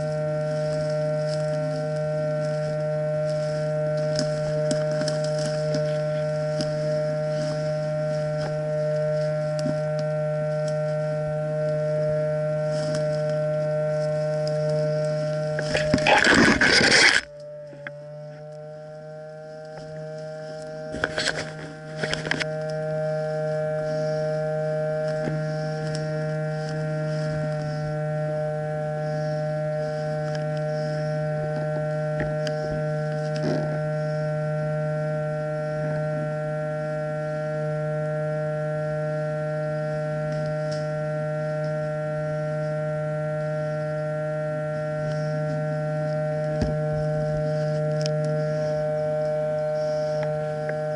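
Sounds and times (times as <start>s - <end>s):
steady drone of held pitches: 0.0s - 50.9s.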